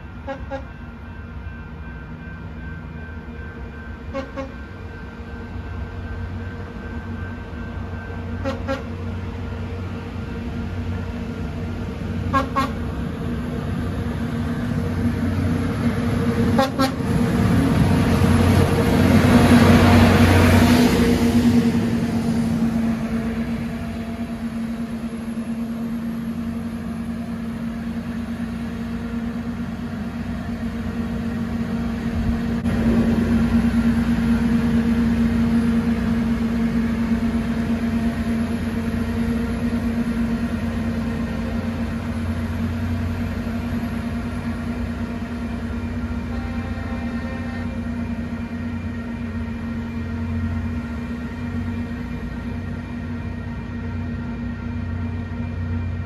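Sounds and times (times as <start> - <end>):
maintenance train machinery passing: 0.0 - 56.0.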